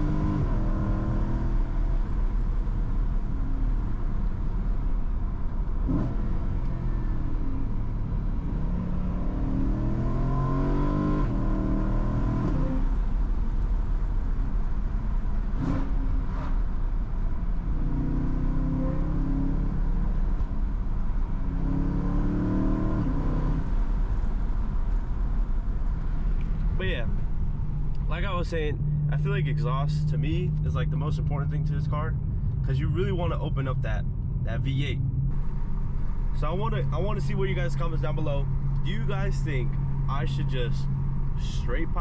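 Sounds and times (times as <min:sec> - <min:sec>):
car engine accelerating: 0:00.0 - 0:42.0
road rumble: 0:00.0 - 0:42.0.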